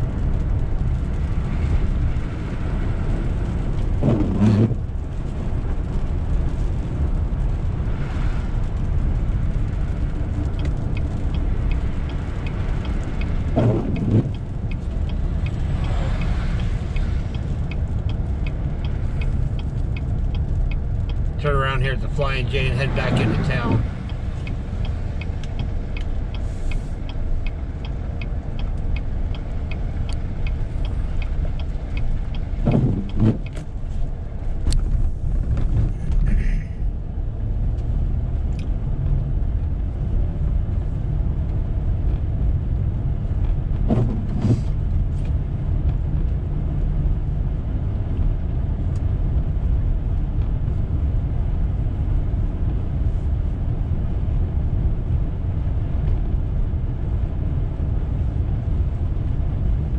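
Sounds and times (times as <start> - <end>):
engine and tyres on slushy road: 0.0 - 59.9.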